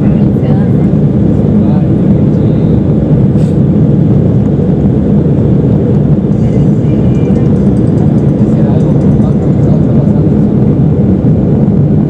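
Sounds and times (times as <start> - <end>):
jet engines rumbling: 0.0 - 12.0
rushing air in airliner cabin: 0.0 - 12.0.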